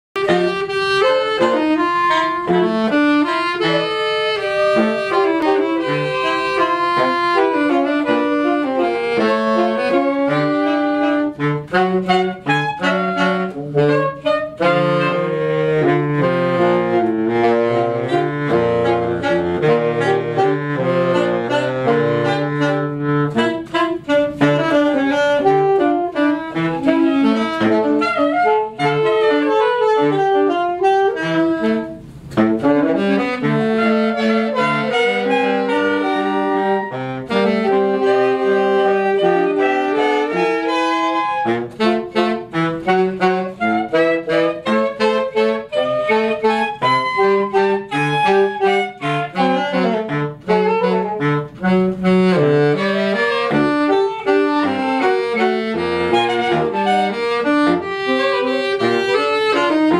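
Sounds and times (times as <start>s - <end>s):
out of tune soprano saxophone: 0.2s - 59.9s
saxophone ensemble playing: 0.2s - 59.9s.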